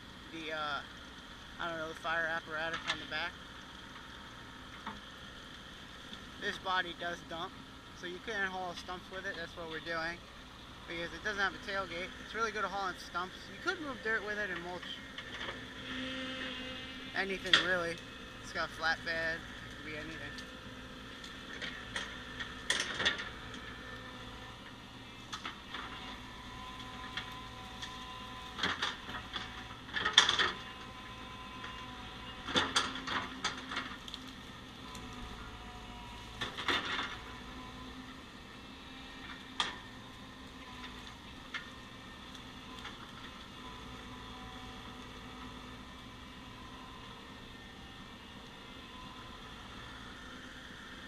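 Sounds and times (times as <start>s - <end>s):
heavy engine running: 0.0s - 51.0s.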